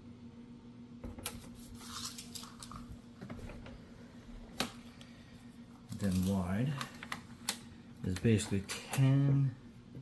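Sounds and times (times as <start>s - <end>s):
steady low hum: 0.0s - 10.0s
faint handling noises: 1.2s - 9.4s.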